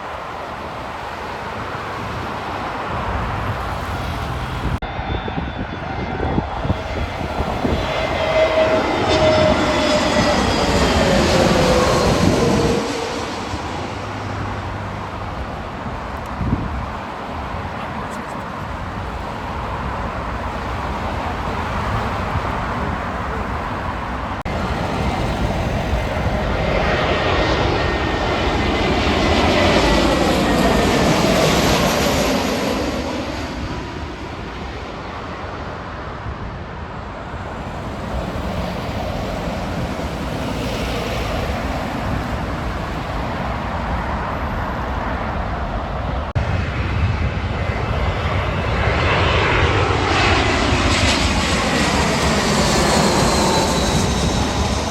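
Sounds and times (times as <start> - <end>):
jet airliner passing overhead: 0.0 - 54.9.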